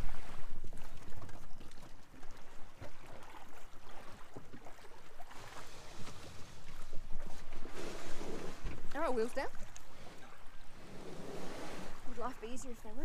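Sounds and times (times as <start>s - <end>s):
shallow water splashing and lapping: 0.0s - 13.0s.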